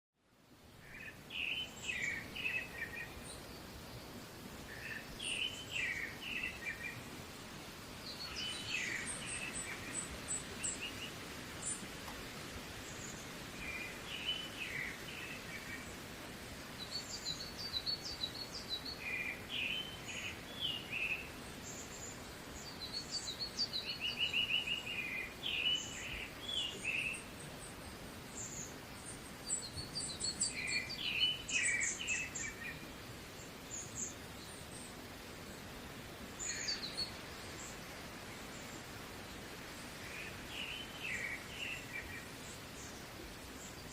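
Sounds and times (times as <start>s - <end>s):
outdoor background hiss: 0.2s - 43.9s
small birds chirping: 0.5s - 43.9s.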